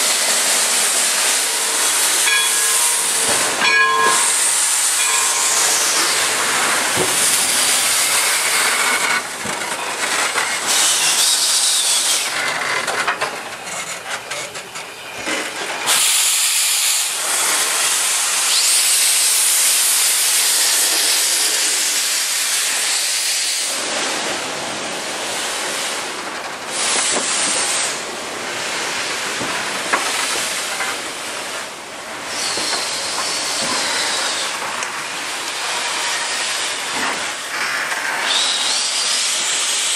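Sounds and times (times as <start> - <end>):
steam locomotive venting steam: 0.0 - 39.9.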